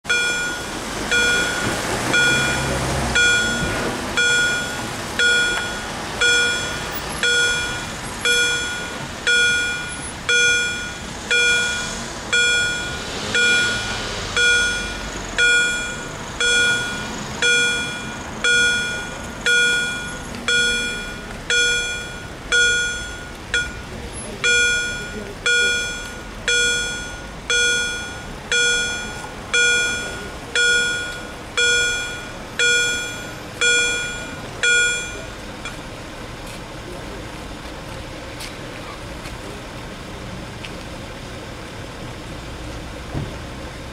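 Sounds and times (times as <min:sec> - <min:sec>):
cars rumbling past: 0:00.0 - 0:43.9
level crossing bells dinging: 0:00.1 - 0:35.8.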